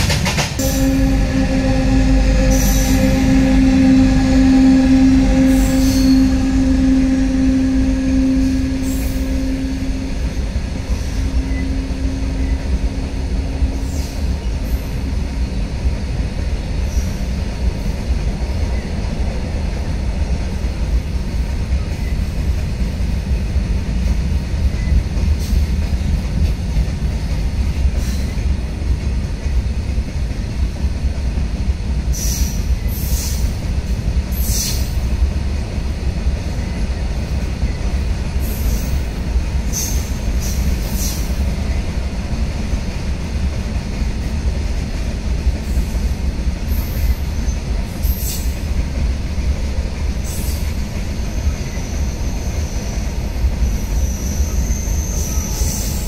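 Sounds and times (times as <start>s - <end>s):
electric locomotive hum: 0.0s - 56.0s
freight wagons rumbling on rails: 0.0s - 56.0s.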